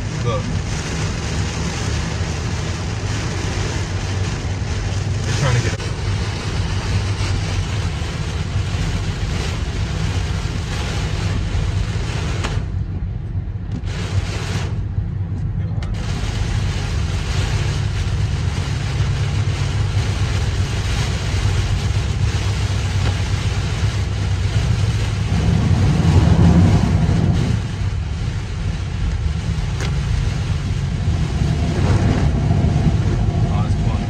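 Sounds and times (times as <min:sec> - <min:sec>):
heavy rain on car roof: 0:00.0 - 0:34.0
road and engine rumble: 0:00.0 - 0:34.0.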